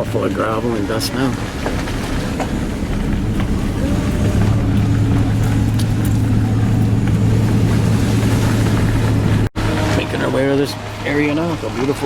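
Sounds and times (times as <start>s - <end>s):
tyres on gravel road: 0.0s - 12.0s
vehicle engine hum: 0.0s - 12.0s.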